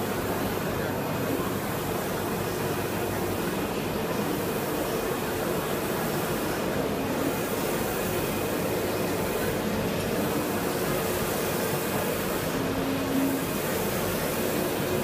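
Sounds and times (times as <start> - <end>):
printer mechanical whir: 0.0 - 15.0.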